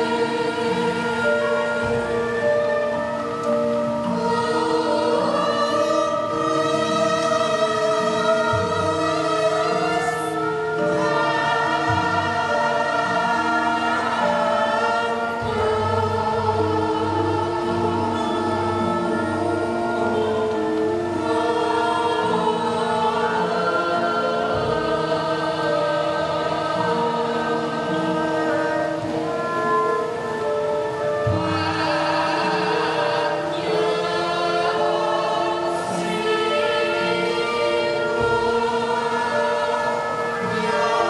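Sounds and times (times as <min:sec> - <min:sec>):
chorus of voices singing: 0:00.0 - 0:41.0
metallophones and gongs ringing: 0:00.0 - 0:41.0.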